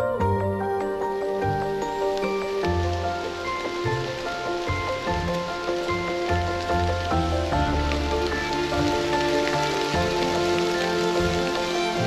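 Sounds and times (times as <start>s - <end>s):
rain patter: 0.0s - 12.0s.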